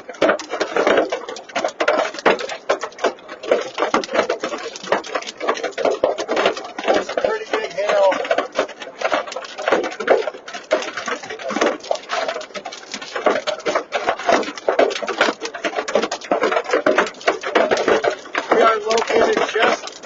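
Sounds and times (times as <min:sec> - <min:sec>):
hail and rain hitting vehicle roof: 0:00.0 - 0:20.0.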